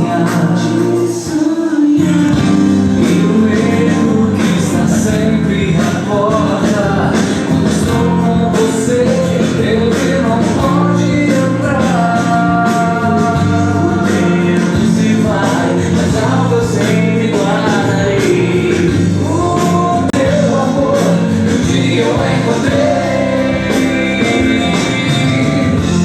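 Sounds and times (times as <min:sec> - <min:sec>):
gospel singing voices: 0:00.0 - 0:26.0
guitar accompaniment: 0:00.0 - 0:26.0.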